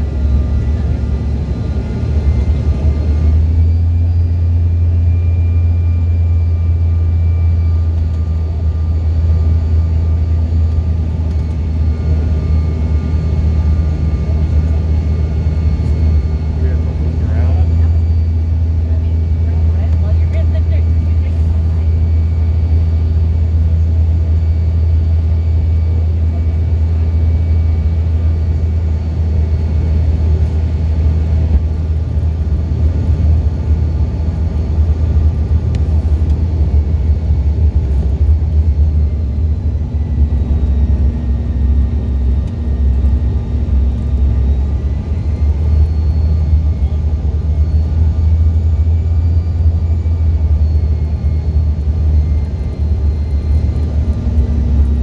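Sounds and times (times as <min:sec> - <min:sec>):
airliner cabin low rumble: 0:00.0 - 0:55.0.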